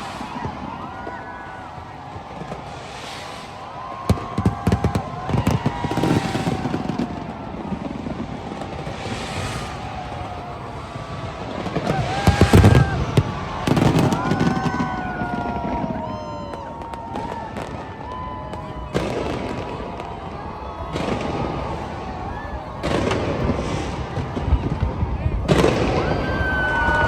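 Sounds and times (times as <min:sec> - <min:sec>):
firework cracks and bangs: 0:00.0 - 0:27.0
firework whistles: 0:00.0 - 0:27.0.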